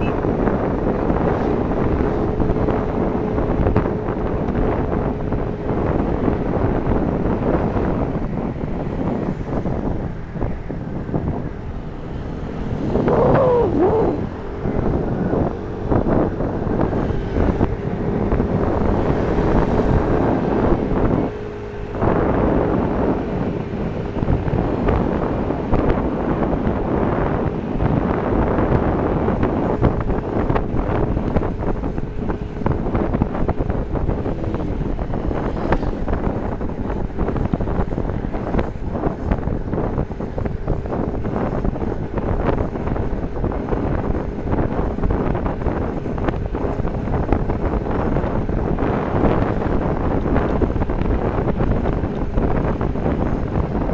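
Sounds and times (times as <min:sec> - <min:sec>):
road noise: 0:00.0 - 0:53.9
scooter engine hum: 0:00.0 - 0:53.9
wind rushing over microphone: 0:00.0 - 0:53.9.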